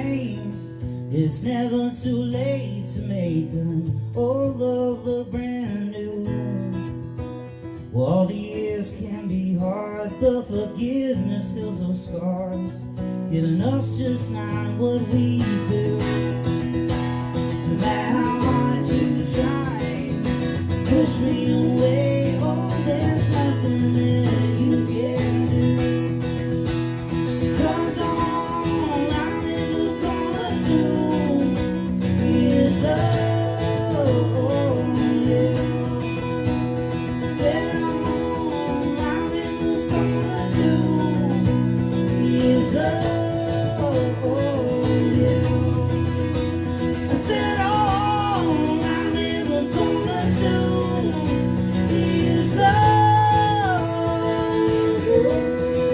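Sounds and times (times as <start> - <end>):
acoustic guitar chords: 0.0 - 55.9.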